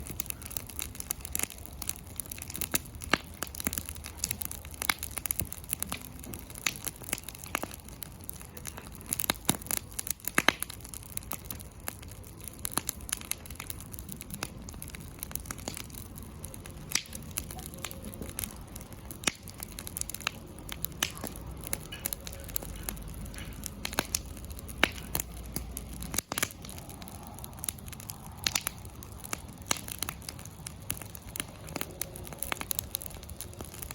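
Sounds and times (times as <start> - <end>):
campfire pops and crackles: 0.0 - 33.9
low fire rumble: 0.0 - 33.9.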